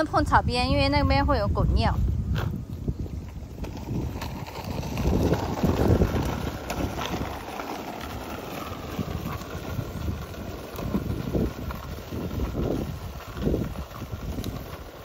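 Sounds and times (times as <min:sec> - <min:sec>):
plastic wheels rumbling on concrete: 0:00.0 - 0:15.0.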